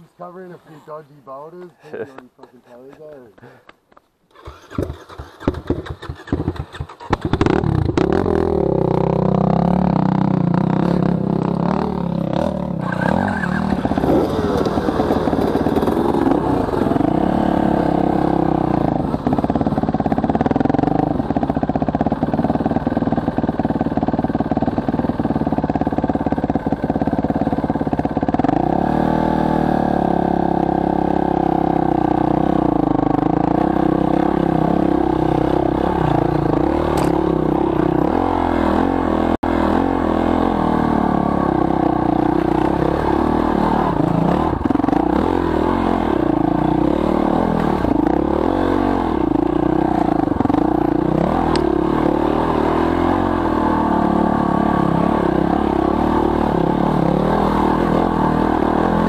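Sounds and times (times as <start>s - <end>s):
dirt bike engine starting and revving: 4.3s - 59.0s.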